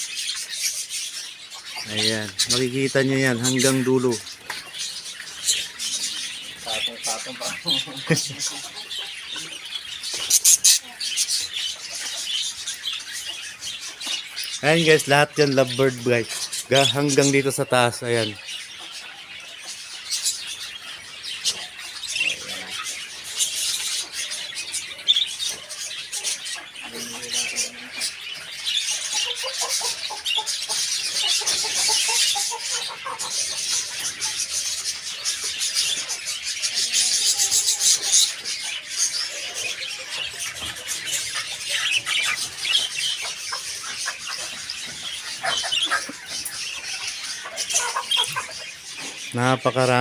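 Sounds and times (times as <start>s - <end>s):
lovebirds chattering: 0.0s - 50.0s.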